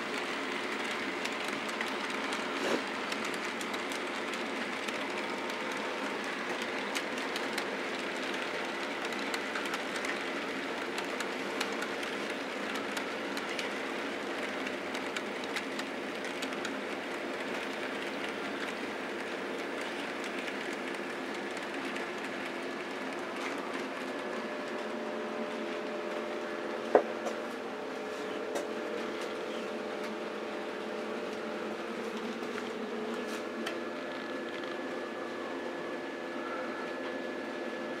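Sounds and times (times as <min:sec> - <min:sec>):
model train motors humming: 0:00.0 - 0:38.0.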